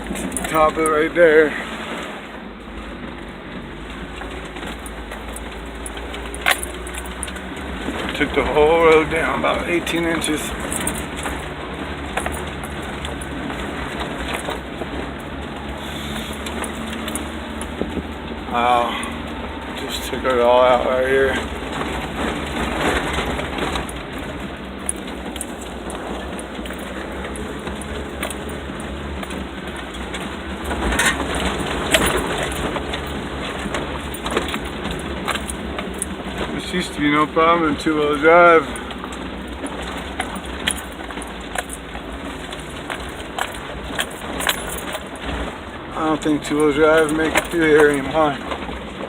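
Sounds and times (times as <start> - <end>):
vehicle engine running: 0.0 - 49.0
knocks and rattles: 3.9 - 49.0.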